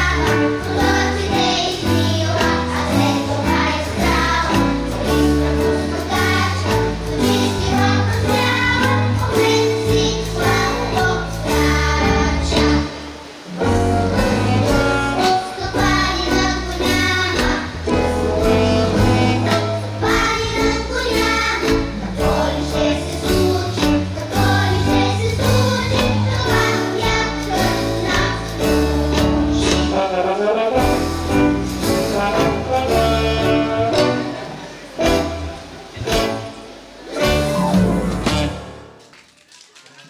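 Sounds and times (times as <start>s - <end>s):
instrumental accompaniment with bass: 0.0s - 13.0s, 13.6s - 39.0s
children's choir singing: 0.0s - 39.1s.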